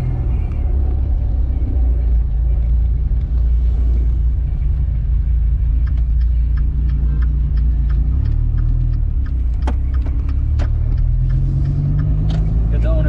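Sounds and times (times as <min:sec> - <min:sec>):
car engine and exhaust while driving: 0:00.0 - 0:13.0.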